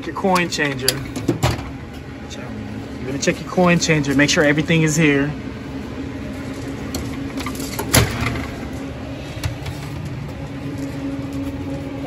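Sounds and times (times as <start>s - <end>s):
vending machine hum: 0.0s - 12.0s.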